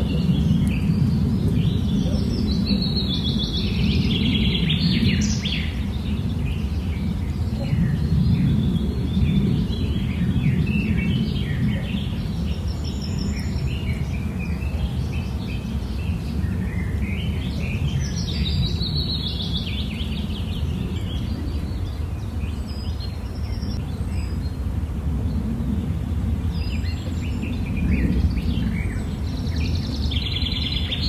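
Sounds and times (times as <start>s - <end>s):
birds chirping and calling: 0.0s - 24.6s, 26.4s - 31.0s
low rumbling noise: 0.0s - 31.0s.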